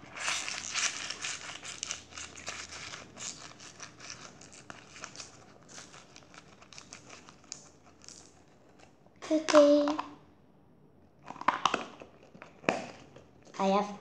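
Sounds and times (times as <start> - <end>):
crunchy slime crackling: 0.0 - 9.7, 11.2 - 14.0.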